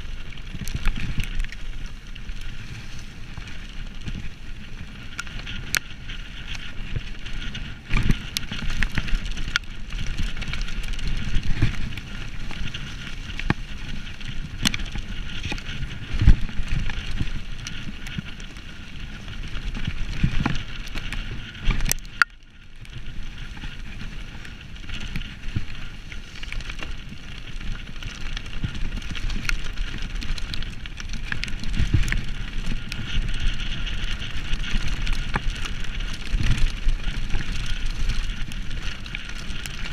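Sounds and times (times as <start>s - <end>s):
bike clattering over bumps: 0.0s - 39.9s
bike tyres rolling on dirt: 0.0s - 39.9s
wind on microphone: 0.0s - 39.9s.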